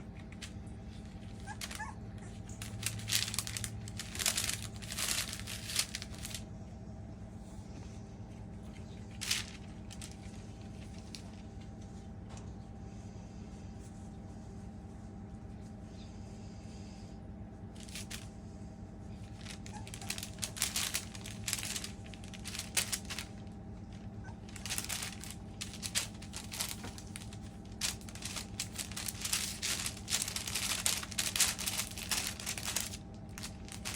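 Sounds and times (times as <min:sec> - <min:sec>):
paper crinkling under puppies' feet: 0:00.0 - 0:06.6, 0:07.3 - 0:15.9, 0:17.5 - 0:33.9
steady low hum: 0:00.0 - 0:33.9.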